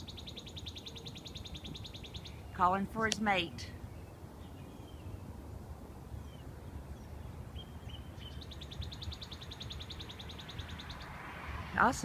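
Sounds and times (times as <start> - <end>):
songbird trilling: 0.0 - 5.3, 6.0 - 11.2.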